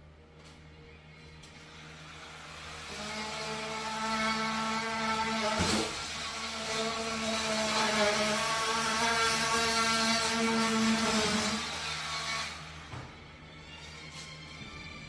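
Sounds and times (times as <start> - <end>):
electric power tool whine: 1.2 - 15.0.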